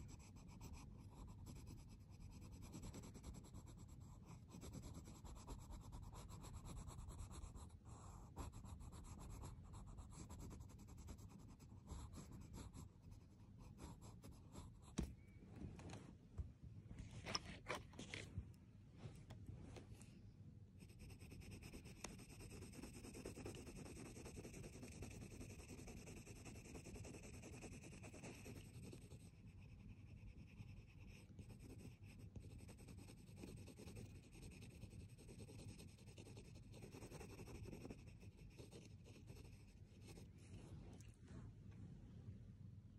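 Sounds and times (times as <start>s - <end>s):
pencil scratching on paper: 0.0s - 15.1s, 20.8s - 40.5s.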